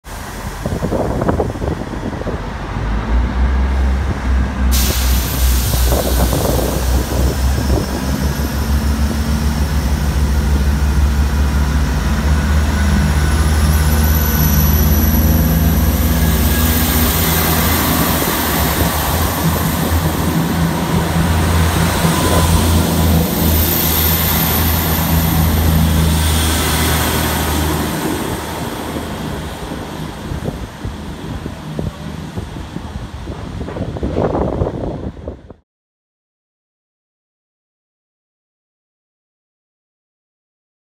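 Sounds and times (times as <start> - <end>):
moving train rumble: 0.0 - 35.6
diesel engine drone: 0.1 - 35.4.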